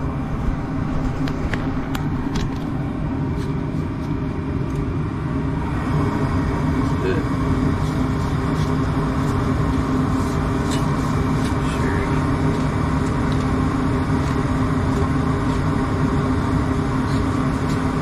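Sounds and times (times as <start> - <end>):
gas furnace humming: 0.0 - 18.0.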